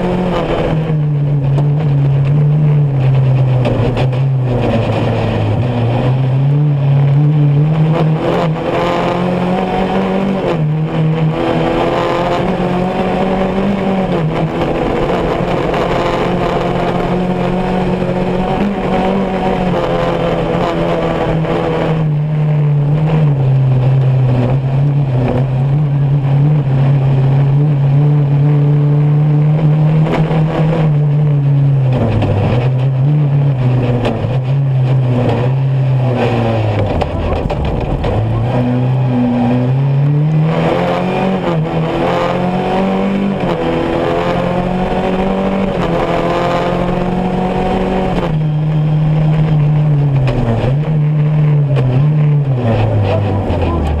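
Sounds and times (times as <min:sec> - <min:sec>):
buggy engine revving: 0:00.0 - 0:54.0.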